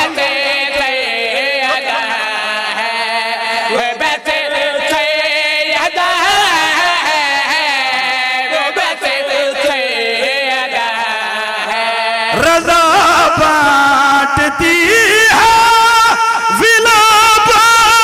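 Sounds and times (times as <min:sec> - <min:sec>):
men chanting through microphones: 0:00.0 - 0:18.0.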